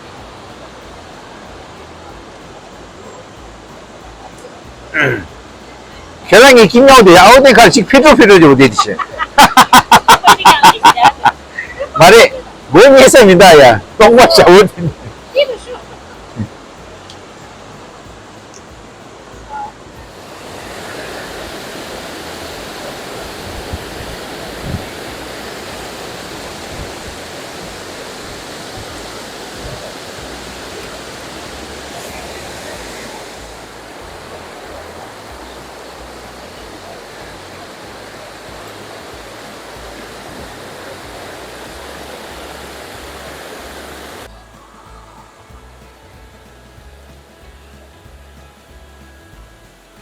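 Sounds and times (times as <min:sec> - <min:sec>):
waterfall roaring: 0:00.0 - 0:44.3.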